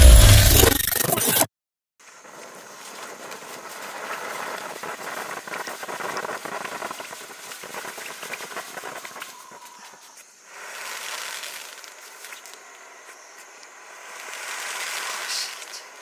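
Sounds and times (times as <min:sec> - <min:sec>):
firework crackling: 0:02.2 - 0:16.0
firework fountain hissing: 0:02.2 - 0:16.0.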